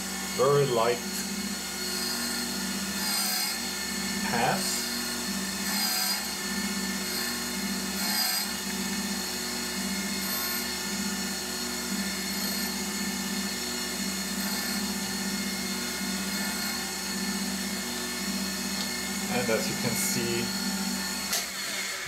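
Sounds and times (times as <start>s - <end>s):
grinder motor humming and whining: 0.0s - 22.0s.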